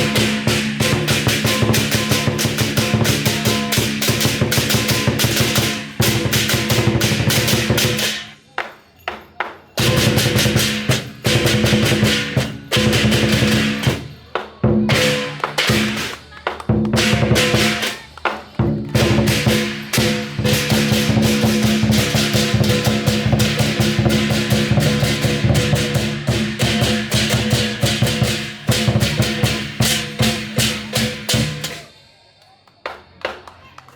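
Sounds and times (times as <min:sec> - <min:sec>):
drum and cymbals fast beat: 0:00.0 - 0:32.0.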